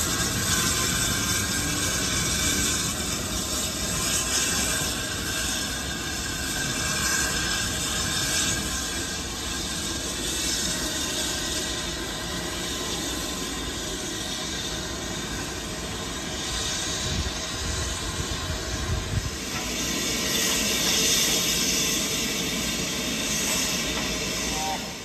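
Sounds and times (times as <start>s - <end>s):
hiss of escaping steam: 0.0s - 25.0s.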